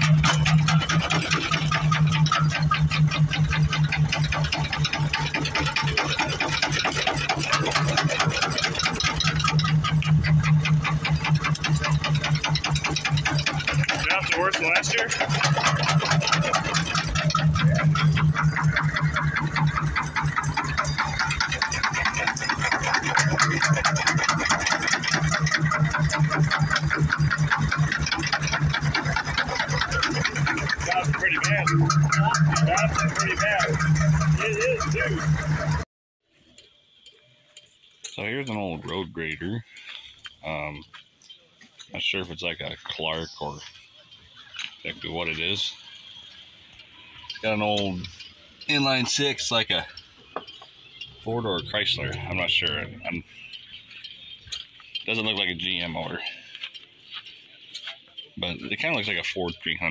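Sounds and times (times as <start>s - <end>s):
low engine hum: 0.0s - 35.9s, 41.9s - 59.9s
stationary engine clattering: 0.0s - 59.9s.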